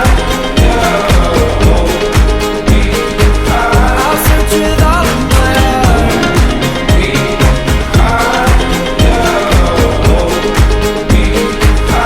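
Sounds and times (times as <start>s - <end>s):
pop music with drum beat: 0.0s - 12.0s.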